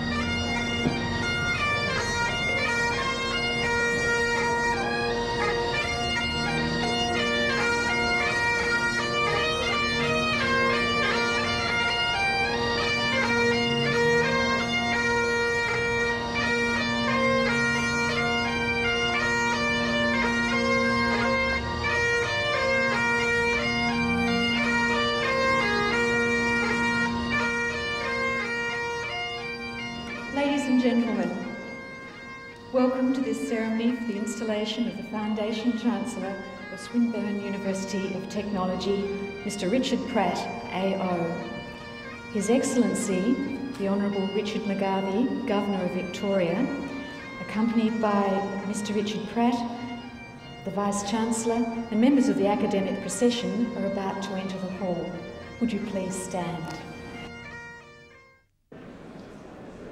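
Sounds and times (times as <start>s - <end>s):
bagpipe chanter melody: 0.0s - 58.5s
bagpipe drone: 0.0s - 59.8s.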